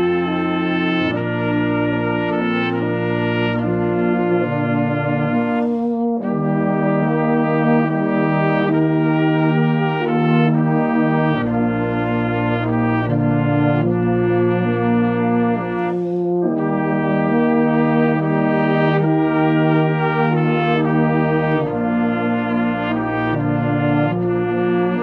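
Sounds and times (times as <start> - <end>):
brass band playing chords: 0.0 - 25.0.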